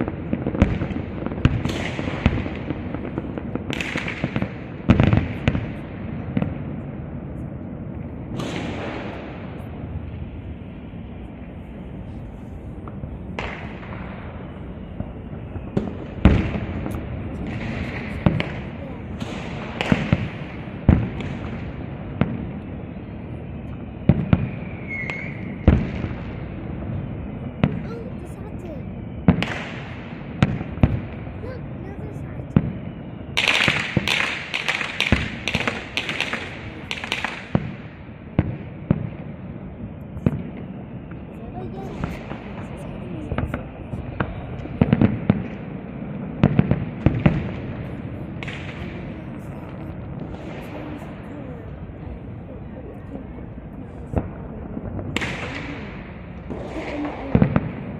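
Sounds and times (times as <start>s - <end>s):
distant fireworks rumbling: 0.0s - 57.9s
firework bangs: 0.0s - 57.9s.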